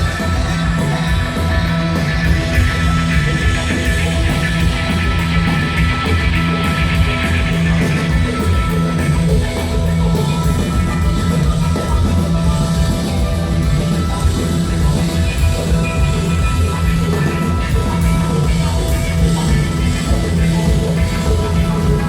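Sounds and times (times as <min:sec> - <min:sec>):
bass: 0:00.0 - 0:22.0
distorted fuzz guitars: 0:00.0 - 0:22.0
drums: 0:00.0 - 0:22.0.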